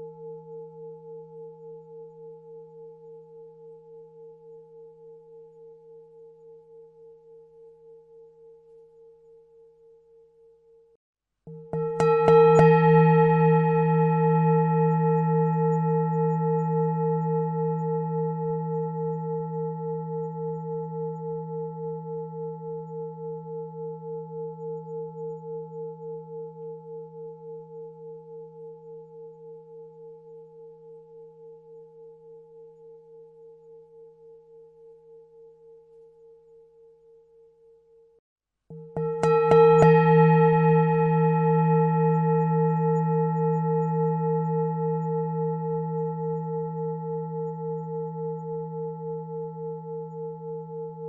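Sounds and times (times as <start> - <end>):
singing bowl ringing: 0.0 - 51.0.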